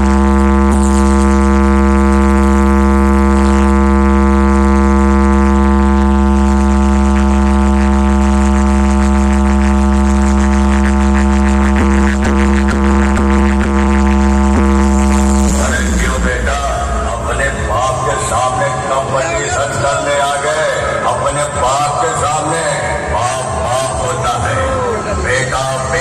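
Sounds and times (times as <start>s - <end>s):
heavy deep bass: 0.0s - 26.0s
loud buzzing drone tone: 0.0s - 26.0s.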